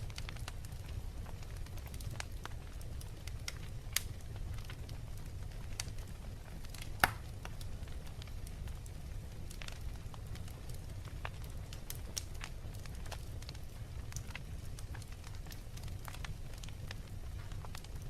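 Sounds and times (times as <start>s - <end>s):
fire crackling and popping: 0.0s - 18.0s
fire low rumble: 0.0s - 18.0s.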